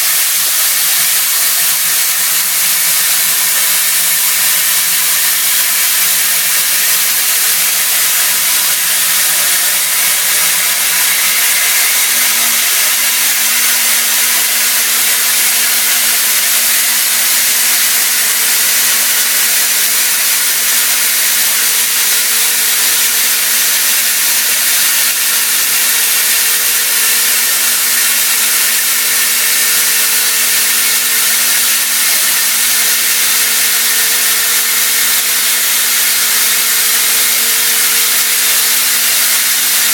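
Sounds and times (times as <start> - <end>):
cnc mill cutting metal: 0.0 - 39.9
coolant hiss: 0.0 - 39.9.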